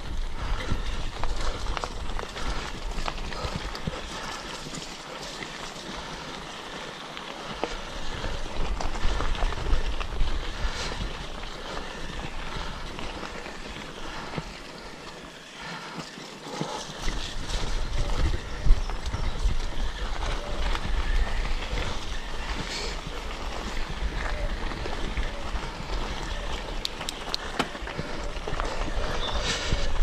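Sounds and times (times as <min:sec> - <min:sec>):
wind rumbling on microphone: 0:00.0 - 0:06.3, 0:07.4 - 0:14.9, 0:16.8 - 0:30.0
bicycle tyres crunching on gravel: 0:00.0 - 0:30.0
bike rattling and clicking: 0:00.0 - 0:30.0.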